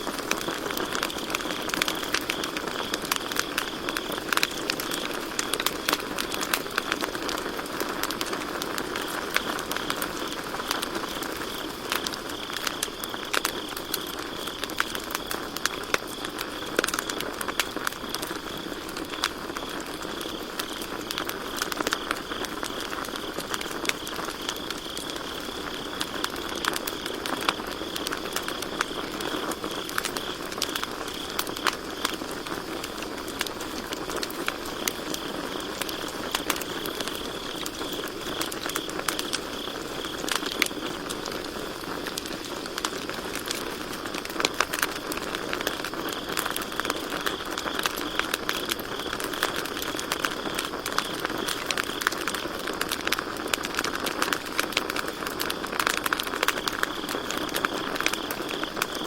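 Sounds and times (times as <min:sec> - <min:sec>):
campfire crackling and popping: 0:00.0 - 0:59.0
crickets trilling: 0:00.0 - 0:59.0.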